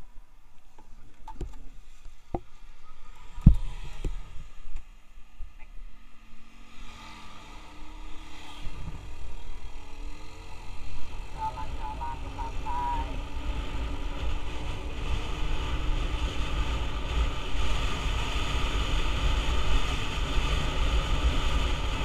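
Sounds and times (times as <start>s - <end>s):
wind rumble: 1.8s - 22.0s.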